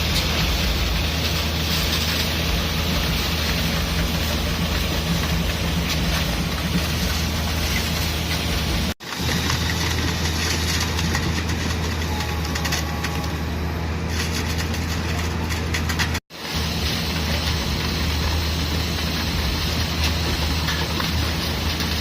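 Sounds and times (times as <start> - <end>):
construction machinery diesel drone: 0.0 - 22.0.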